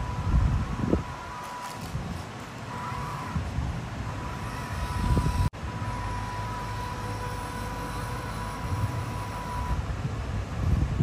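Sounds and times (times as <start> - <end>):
toy truck electric motor whining: 0.0 - 9.8.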